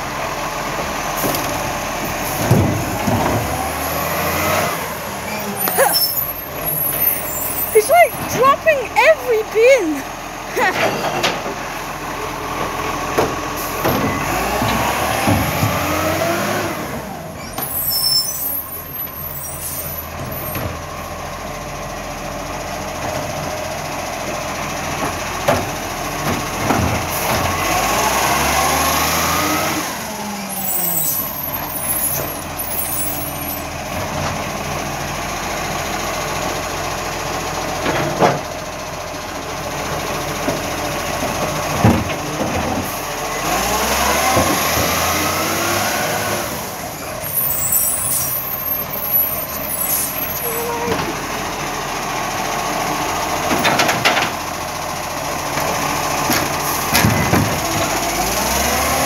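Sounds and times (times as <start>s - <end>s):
garbage truck engine revving: 0.0s - 59.0s.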